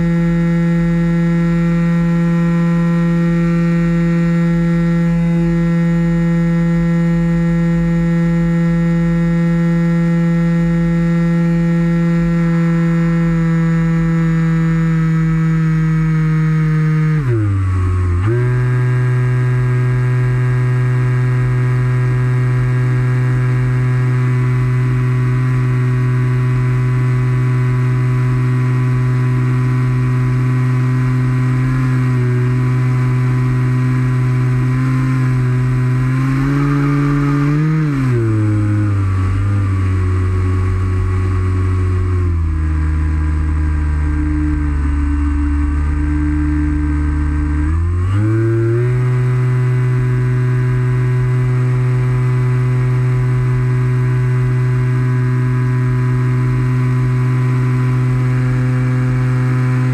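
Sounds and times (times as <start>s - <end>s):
model airplane motor and propeller: 0.0s - 59.9s.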